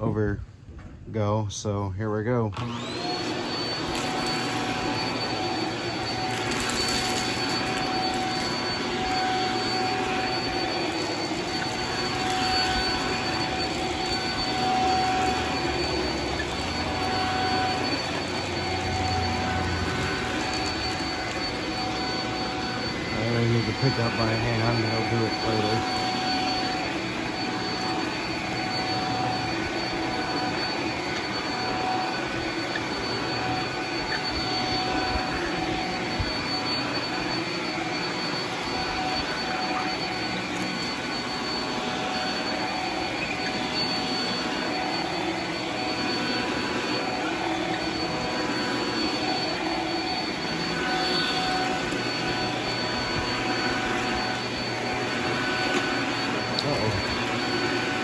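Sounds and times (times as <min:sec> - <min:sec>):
stick vacuum running: 0:02.5 - 0:58.0
thin high whine: 0:03.5 - 0:58.0.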